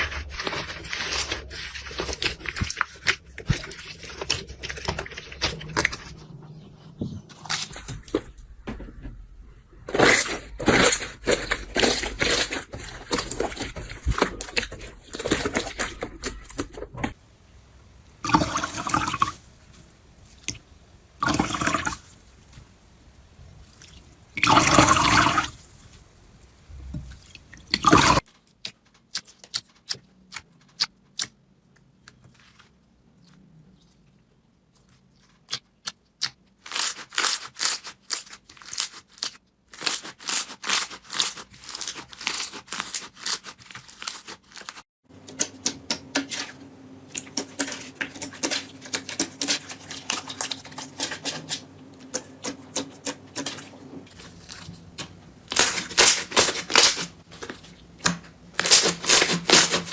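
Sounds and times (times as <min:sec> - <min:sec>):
slime squelching: 0:00.0 - 0:08.3, 0:08.9 - 0:16.9, 0:26.8 - 0:59.9.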